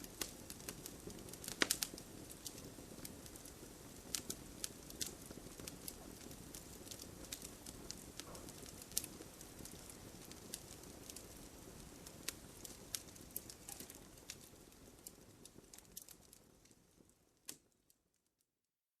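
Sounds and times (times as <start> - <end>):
campfire crackling and popping: 0.0 - 18.2
soft rush of burning: 0.0 - 18.2.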